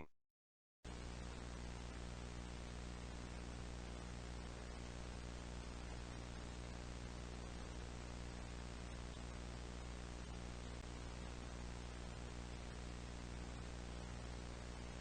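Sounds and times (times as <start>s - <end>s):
low buzzing hum: 0.9s - 15.0s
tape hiss: 0.9s - 15.0s.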